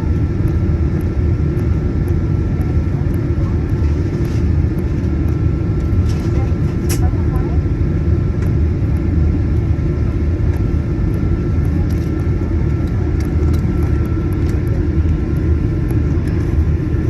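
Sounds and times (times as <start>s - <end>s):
airplane engines rumbling in cabin: 0.0s - 17.0s
faint steady whine: 0.0s - 17.0s.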